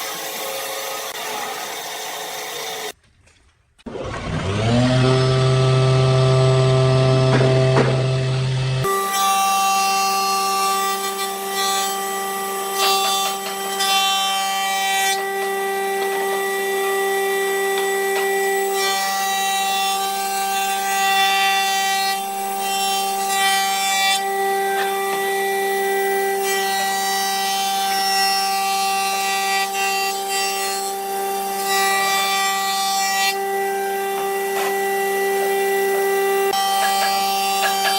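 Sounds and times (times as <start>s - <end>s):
power tool whining: 0.0s - 3.0s, 3.8s - 32.6s, 33.3s - 37.9s.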